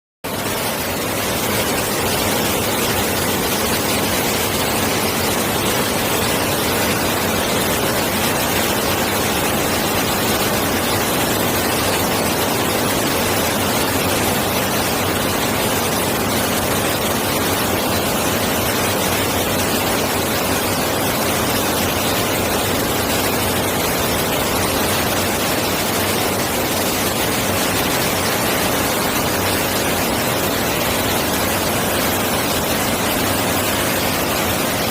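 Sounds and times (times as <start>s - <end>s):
mountain stream rushing: 0.3s - 34.9s.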